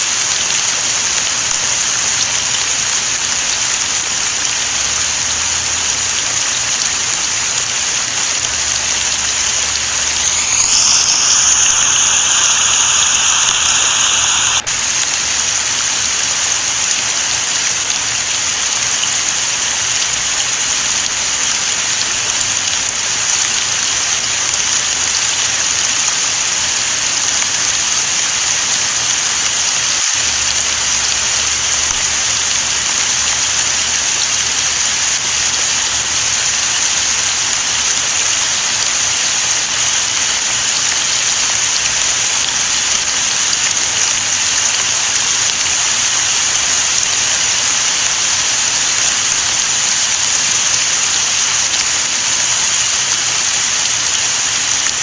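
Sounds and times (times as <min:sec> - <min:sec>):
steady rain hissing: 0:00.0 - 0:55.0
louder hiss with steady tones: 0:06.0 - 0:33.8, 0:36.4 - 0:55.0.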